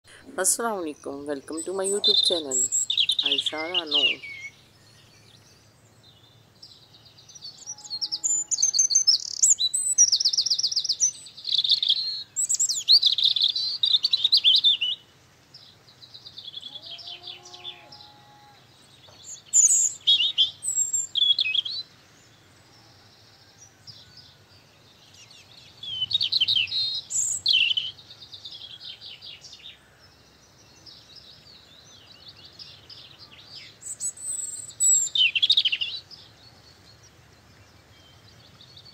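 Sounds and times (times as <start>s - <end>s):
birds chirping in high trills: 0.1s - 38.9s.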